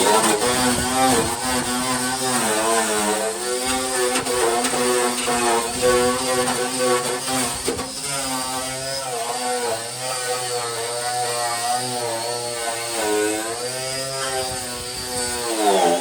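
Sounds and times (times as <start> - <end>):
motor running with varying pitch: 0.0 - 16.0.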